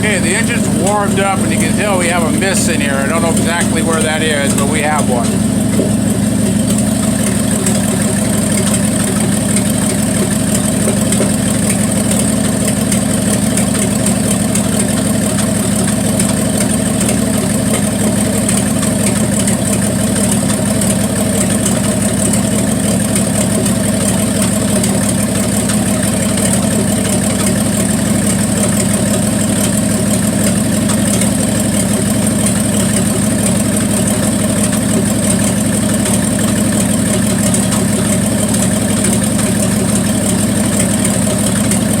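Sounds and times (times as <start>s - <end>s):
car engine idling with a miss: 0.0s - 42.0s.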